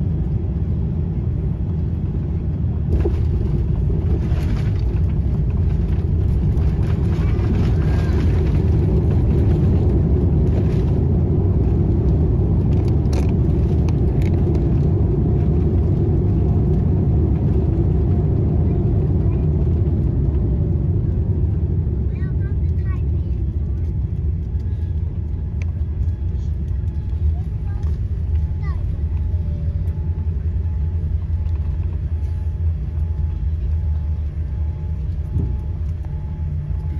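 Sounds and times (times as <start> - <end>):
aircraft cabin engine rumble: 0.0 - 36.9.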